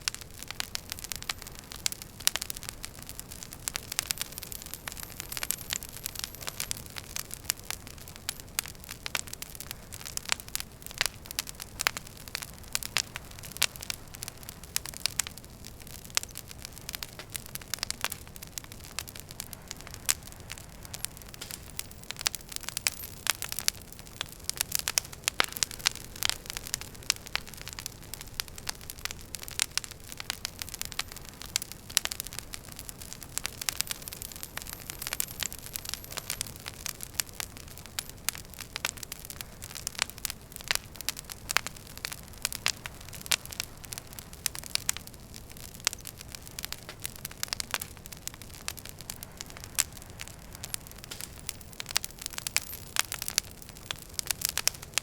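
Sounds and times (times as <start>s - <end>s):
low rush of burning: 0.0s - 55.0s
wood fire crackling: 0.0s - 55.0s.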